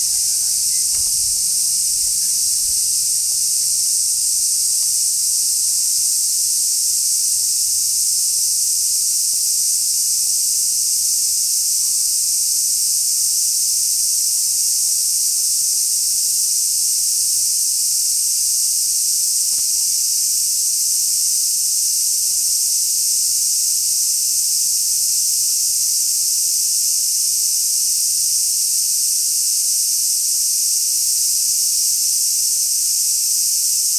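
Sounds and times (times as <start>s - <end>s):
cicadas singing drone: 0.0s - 33.9s.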